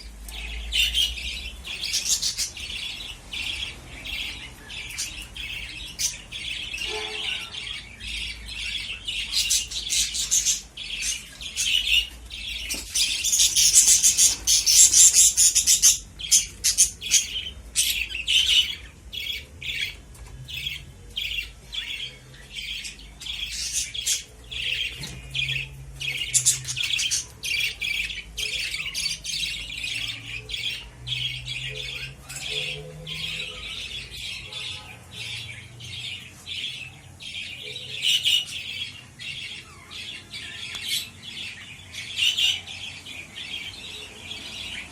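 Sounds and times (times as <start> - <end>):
lovebirds chirping and squawking: 0.0 - 44.9.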